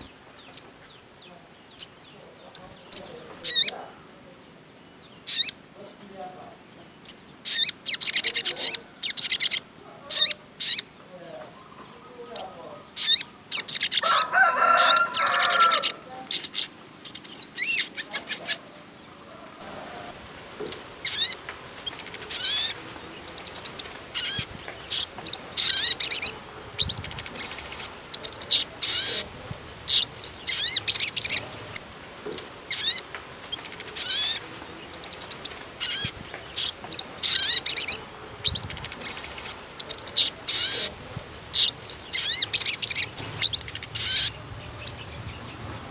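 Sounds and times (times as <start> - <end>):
songbird chirping and trilling: 0.0 - 45.9.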